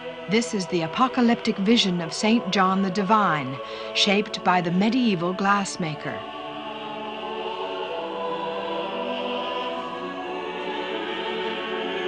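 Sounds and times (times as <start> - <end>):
choir holding long chords: 0.0 - 12.0.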